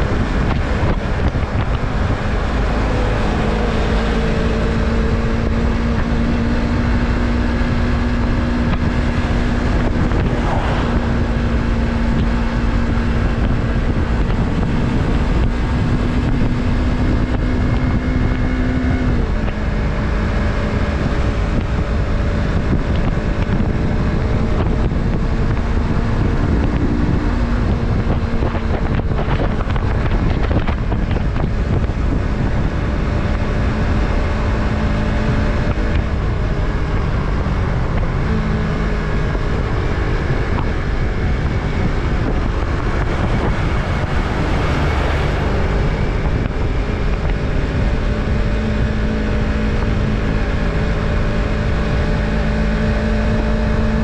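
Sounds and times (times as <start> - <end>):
motorcycle engine running: 0.0 - 54.0
wind over microphone: 0.0 - 54.0.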